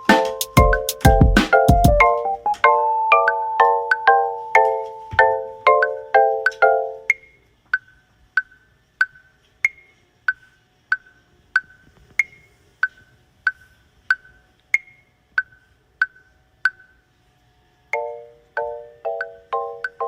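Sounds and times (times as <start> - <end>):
metronome-like wood-block ticks: 0.0 - 17.0, 18.0 - 20.0.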